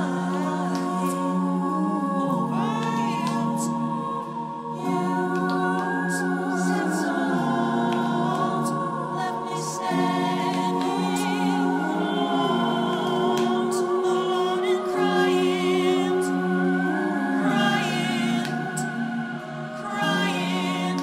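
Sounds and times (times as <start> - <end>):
a cappella harmony singing: 0.0 - 21.0.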